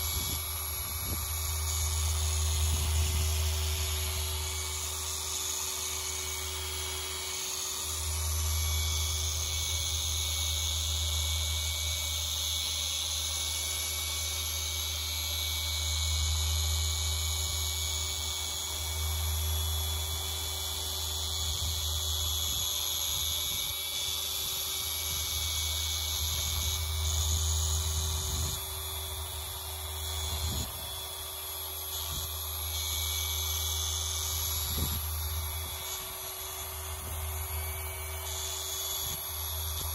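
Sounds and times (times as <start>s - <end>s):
car polisher humming and whining: 0.0s - 39.9s.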